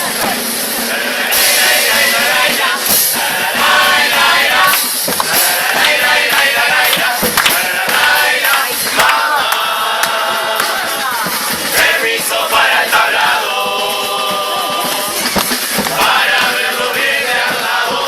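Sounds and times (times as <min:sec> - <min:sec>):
chorus singing in full voice: 0:00.0 - 0:18.0
percussion hits: 0:00.0 - 0:18.0.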